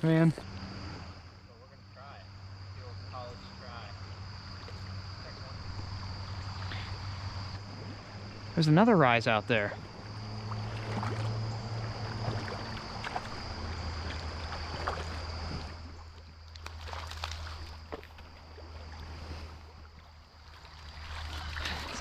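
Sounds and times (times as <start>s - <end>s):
creek water running: 0.0s - 22.0s.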